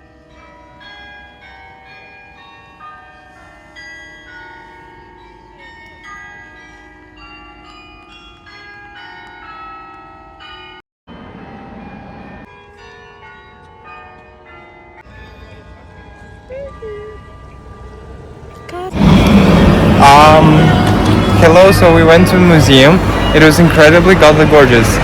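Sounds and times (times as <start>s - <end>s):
bells ringing: 0.0s - 10.8s, 11.4s - 25.0s.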